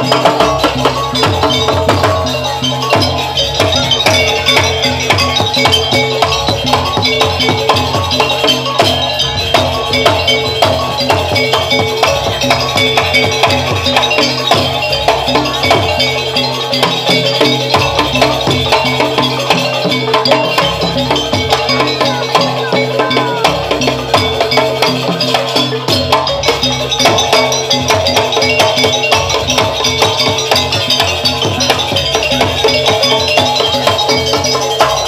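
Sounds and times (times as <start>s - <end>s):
drums: 0.0s - 35.0s
gamelan ensemble playing: 0.0s - 35.0s
struck metal percussion: 0.0s - 35.0s.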